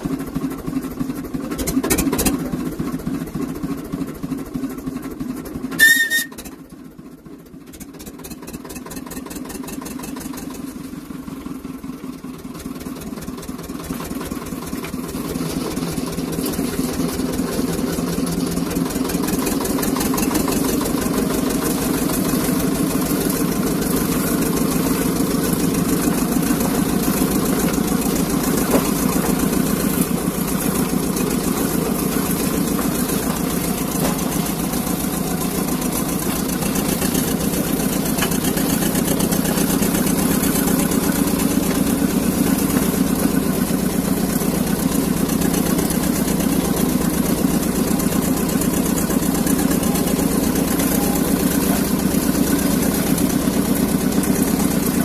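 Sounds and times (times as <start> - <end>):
locomotive engine running: 0.0 - 55.0.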